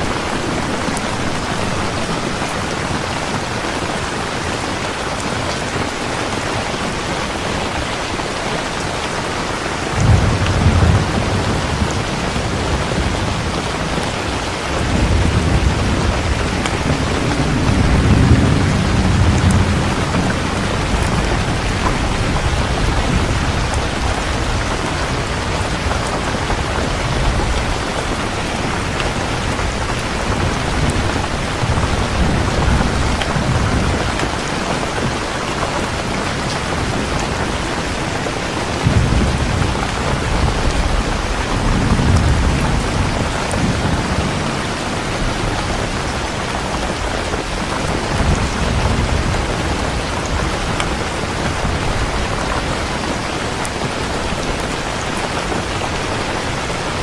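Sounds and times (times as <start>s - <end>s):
heavy steady rain: 0.0s - 57.0s
thunder rumbling: 5.5s - 57.0s.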